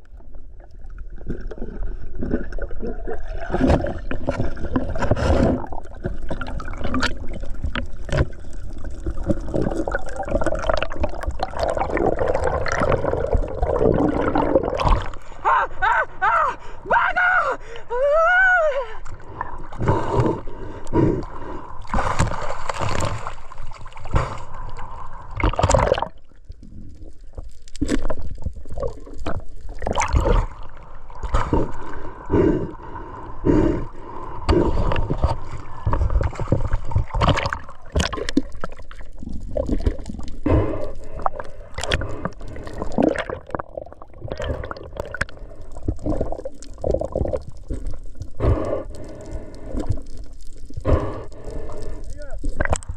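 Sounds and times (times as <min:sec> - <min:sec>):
water sloshing and splashing: 0:00.0 - 0:15.4, 0:21.7 - 0:32.2, 0:34.5 - 0:52.9.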